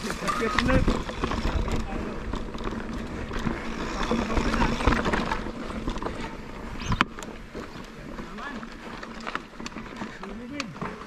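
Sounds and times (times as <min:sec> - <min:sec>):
bike rattling over bumps: 0:00.0 - 0:11.0
bike tyres crunching on stones: 0:00.0 - 0:11.0.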